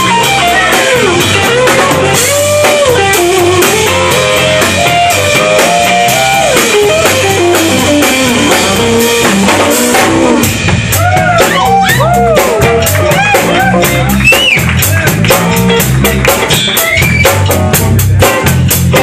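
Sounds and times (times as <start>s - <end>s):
drum beat: 0.0s - 19.0s
electric guitar lead: 0.0s - 19.0s
walking bass line: 0.0s - 19.0s.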